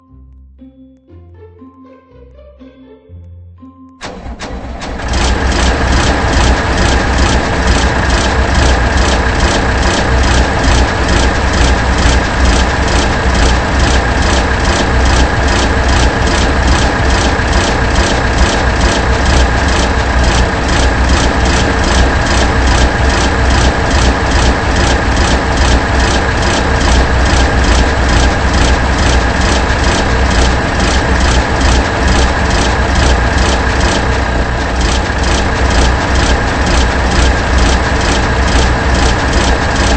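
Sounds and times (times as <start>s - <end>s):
loud machine engine running: 4.0s - 39.9s.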